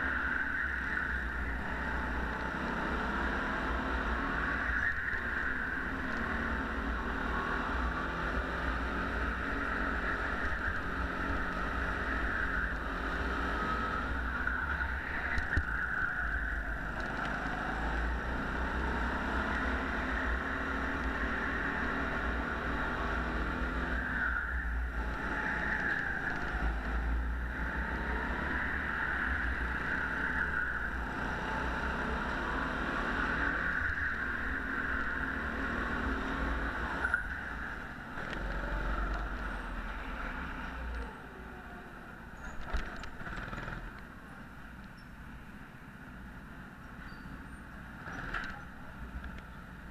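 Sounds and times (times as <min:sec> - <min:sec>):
go-kart engine running: 0:00.0 - 0:44.5.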